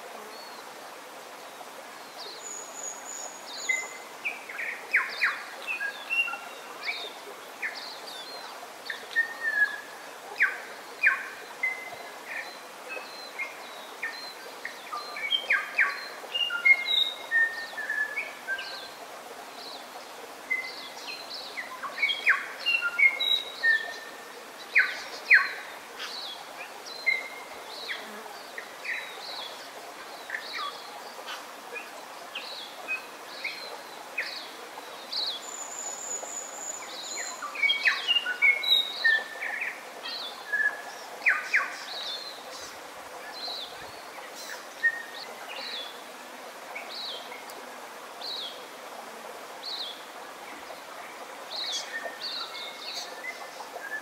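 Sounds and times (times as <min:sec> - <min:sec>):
forest birds singing: 0:02.0 - 0:48.7, 0:49.6 - 0:54.0.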